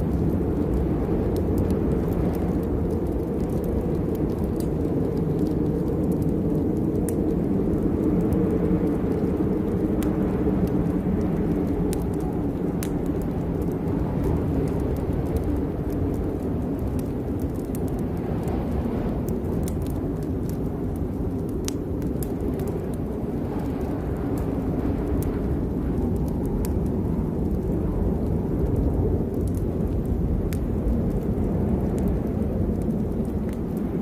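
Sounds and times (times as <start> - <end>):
raindrops ticking: 0.0 - 34.0
steady rain: 0.0 - 34.0.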